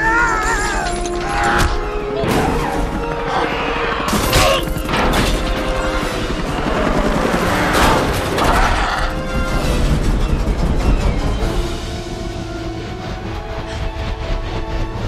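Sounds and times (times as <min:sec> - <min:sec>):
dramatic music score: 0:00.0 - 0:15.0.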